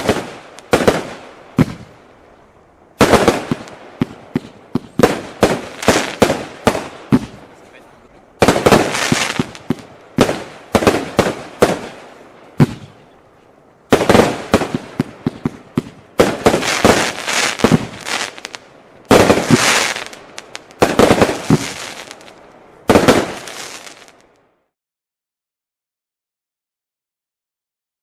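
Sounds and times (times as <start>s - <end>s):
fireworks volleys of sharp bangs: 0.0s - 13.2s, 13.9s - 24.3s.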